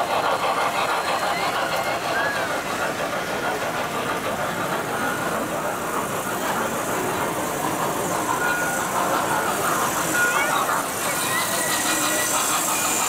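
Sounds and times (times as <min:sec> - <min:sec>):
toy trains running on metal track: 0:00.0 - 0:13.0.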